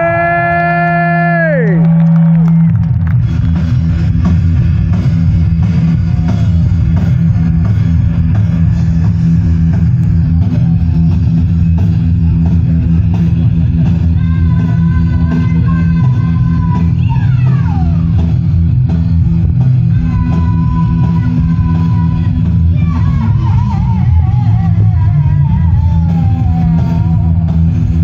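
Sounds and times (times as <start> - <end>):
distorted electric guitar: 0.0 - 28.0
drum kit playing: 2.7 - 28.0.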